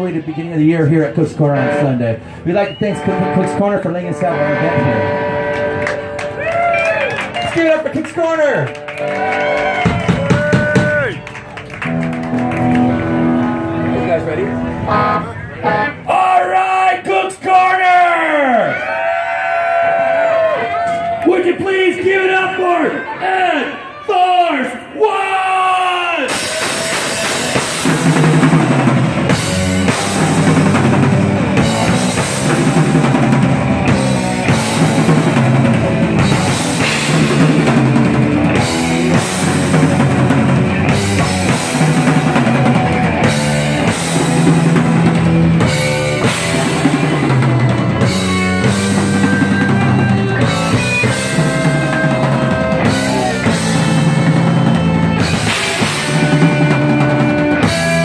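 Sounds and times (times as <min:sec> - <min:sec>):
live rock band playing: 0:00.0 - 0:17.2, 0:26.3 - 0:58.0.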